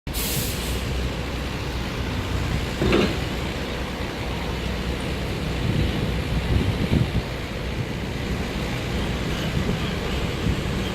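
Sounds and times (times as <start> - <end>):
subway train rumbling: 0.1 - 10.9.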